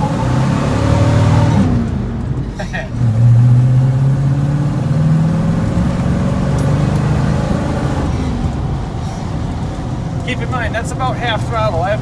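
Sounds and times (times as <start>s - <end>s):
pickup truck engine accelerating: 0.0s - 12.0s.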